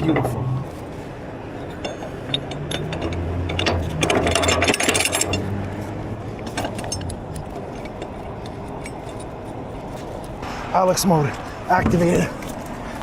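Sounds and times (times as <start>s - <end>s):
heavy engines humming: 0.0s - 13.0s.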